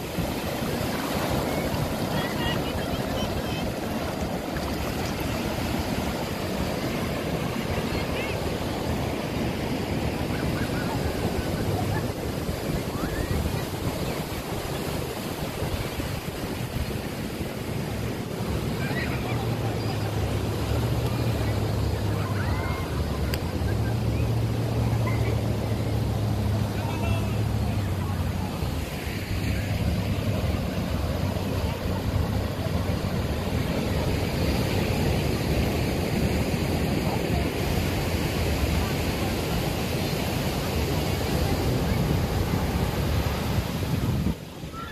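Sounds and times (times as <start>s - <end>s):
ocean waves breaking on beach: 0.0s - 44.9s
wind: 0.0s - 44.9s.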